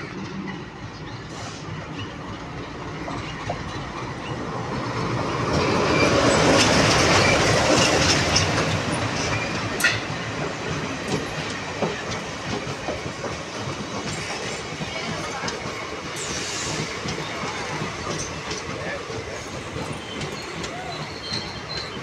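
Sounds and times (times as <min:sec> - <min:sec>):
diesel locomotive passing: 0:00.0 - 0:22.0
train coaches rolling past: 0:00.0 - 0:22.0
wheels clacking over rail joints: 0:01.8 - 0:22.0.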